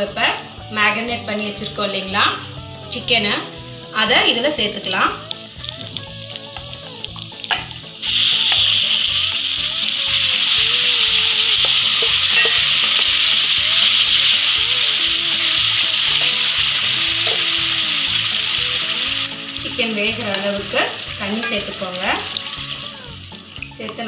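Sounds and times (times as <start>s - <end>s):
chicken sizzling in hot oil: 1.6s - 24.0s.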